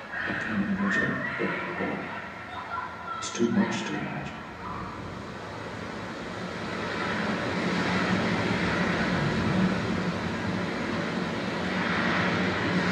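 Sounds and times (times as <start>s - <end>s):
rushing floodwater roar: 0.0s - 12.9s.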